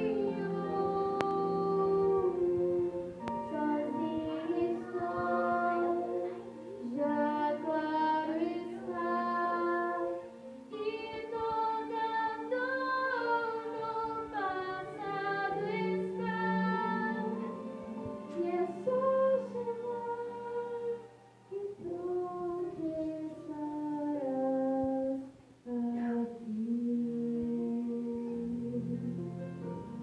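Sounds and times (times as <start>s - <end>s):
women and children singing: 0.0s - 29.2s.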